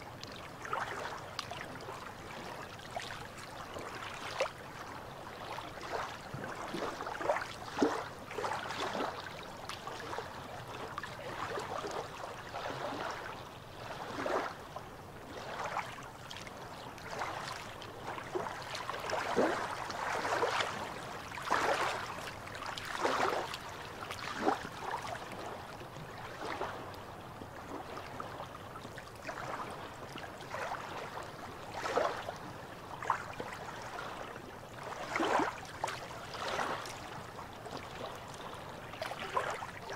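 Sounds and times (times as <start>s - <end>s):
small waves lapping on rocks: 0.1s - 39.9s.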